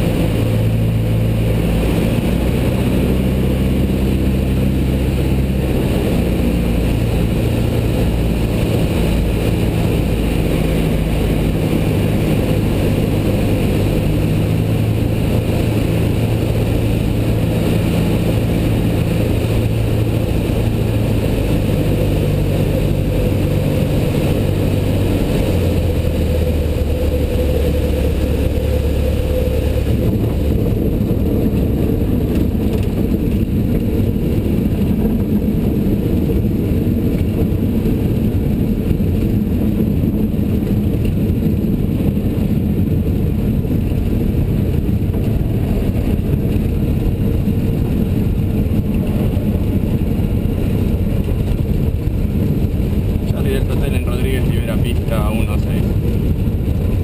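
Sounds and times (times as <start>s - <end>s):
light aircraft piston engine: 0.0s - 57.0s.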